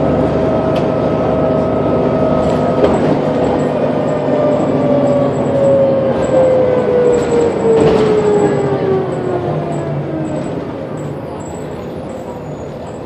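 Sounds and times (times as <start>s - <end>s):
bus drive whine: 0.0s - 13.0s.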